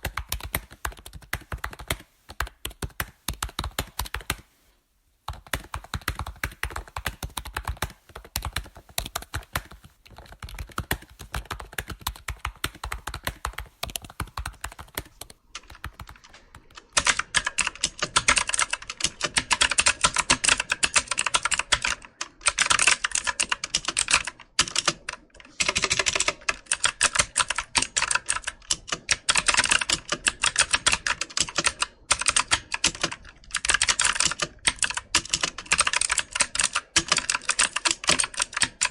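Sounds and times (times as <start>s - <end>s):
computer keyboard typing: 0.0s - 4.5s, 5.3s - 38.9s.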